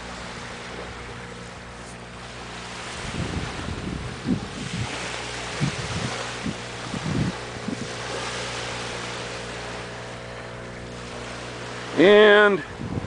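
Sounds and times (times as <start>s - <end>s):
steady low hum: 0.0s - 13.0s
wind buffeting microphone: 2.4s - 13.0s.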